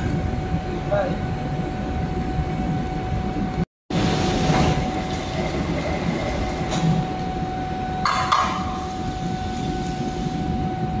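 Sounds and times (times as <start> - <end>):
foundry rumble and hum: 0.0 - 11.0.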